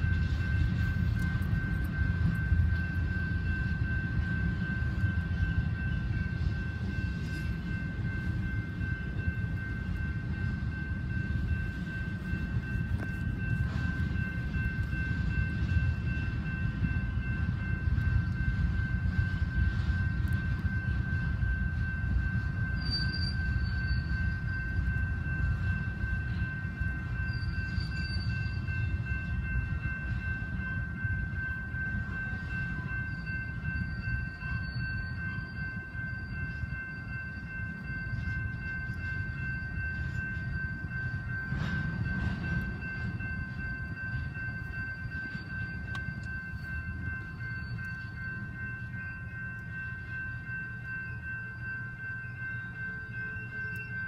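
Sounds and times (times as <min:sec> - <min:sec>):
high ringing tone: 0:00.0 - 0:54.0
train wheels rumbling on rail: 0:00.0 - 0:54.0.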